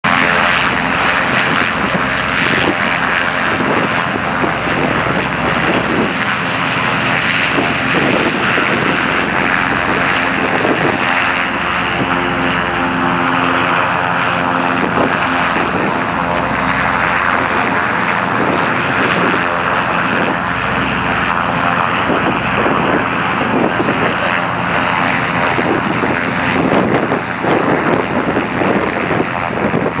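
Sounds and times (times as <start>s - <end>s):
propeller aircraft droning overhead: 0.0s - 30.0s.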